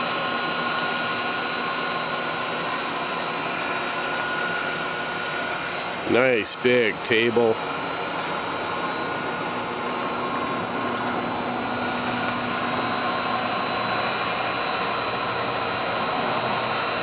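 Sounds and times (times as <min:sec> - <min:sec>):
drill press motor hum: 0:00.0 - 0:17.0
high-pitched whine: 0:00.0 - 0:17.0.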